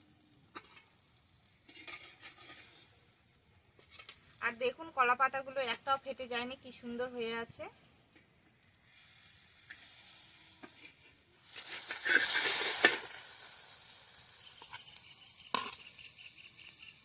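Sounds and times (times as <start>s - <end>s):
fish parcels sizzling in pan: 0.0s - 17.0s.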